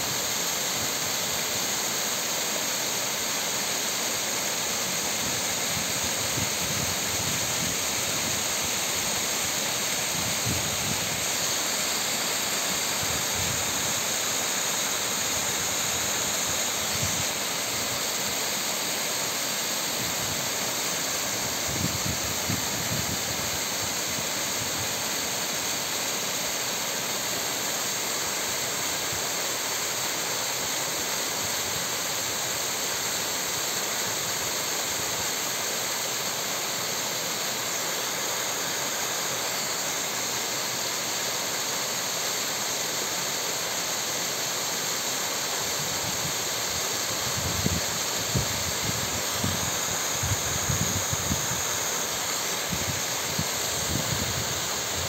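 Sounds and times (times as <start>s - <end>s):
waterfall over rocks: 0.0s - 55.0s.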